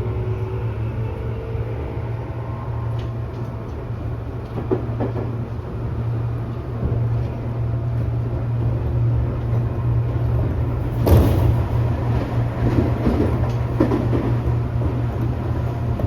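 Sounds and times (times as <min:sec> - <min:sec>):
train motor hum: 0:00.0 - 0:16.0
rolling rumble: 0:03.0 - 0:16.0.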